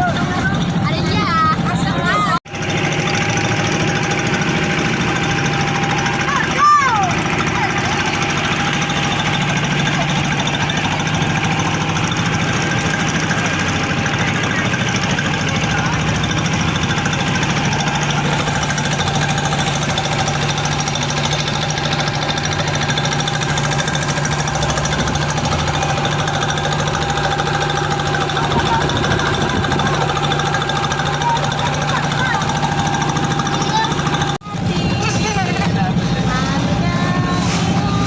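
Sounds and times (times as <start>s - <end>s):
boat engine knocking: 0.0s - 38.0s.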